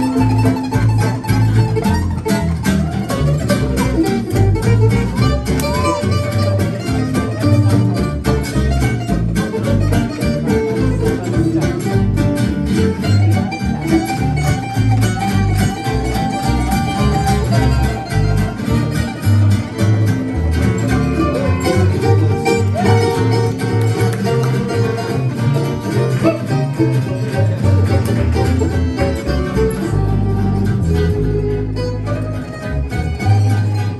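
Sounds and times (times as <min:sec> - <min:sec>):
acoustic guitars strumming: 0:00.0 - 0:33.9
fiddle melody: 0:00.0 - 0:33.9.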